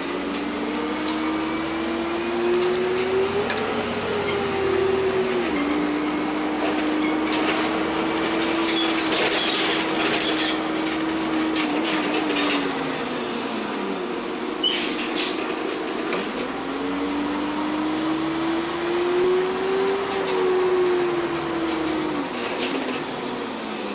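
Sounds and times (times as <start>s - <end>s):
air conditioning fans rushing: 0.0s - 23.9s
bus drivetrain whine: 0.0s - 23.9s.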